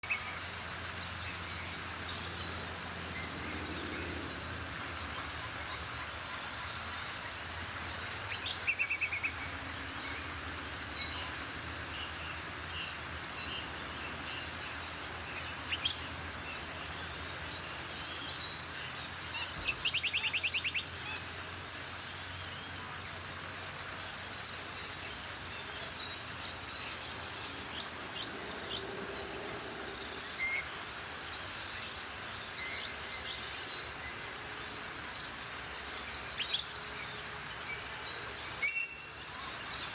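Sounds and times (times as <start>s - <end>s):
small birds chirping: 0.0s - 34.4s.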